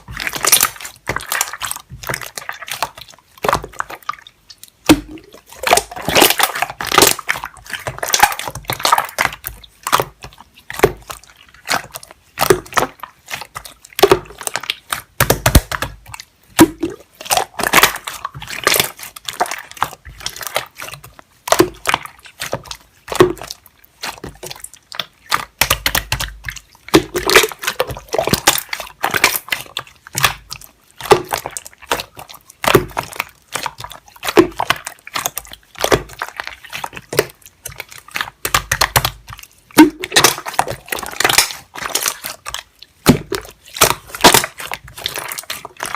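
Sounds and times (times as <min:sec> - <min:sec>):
slime squelching by hand: 0:00.0 - 0:45.9.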